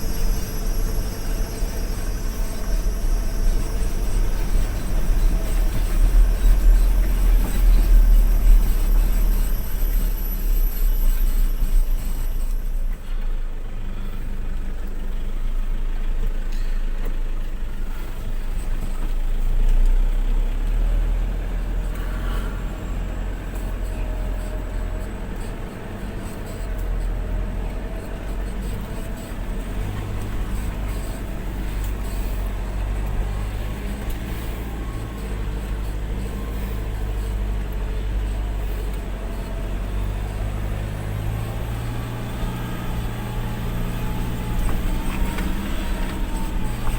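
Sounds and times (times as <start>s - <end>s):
vehicle engine running under load: 0.0s - 46.9s.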